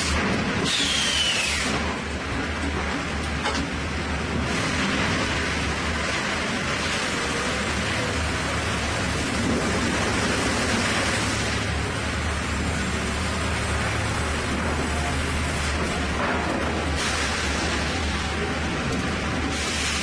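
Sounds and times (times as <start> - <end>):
sawmill machinery rushing noise: 0.0 - 20.0.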